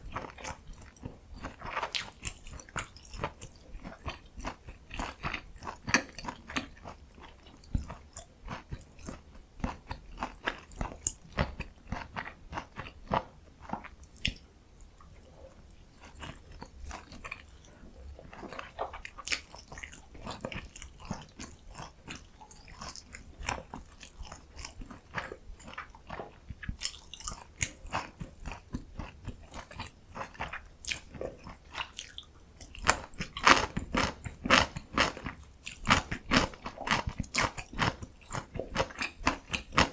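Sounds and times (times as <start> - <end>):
wet chewing: 0.1 - 39.9.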